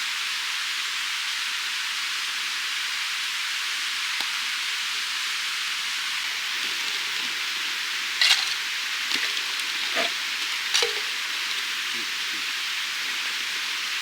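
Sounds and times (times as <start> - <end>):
skewered meat sizzling on grill: 0.2 - 14.0.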